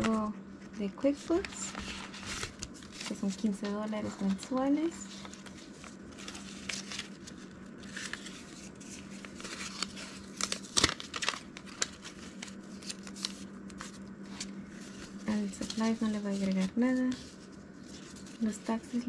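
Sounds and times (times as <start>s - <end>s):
paper money rustling: 1.0s - 19.0s
vinyl pocket crinkling: 1.0s - 19.0s.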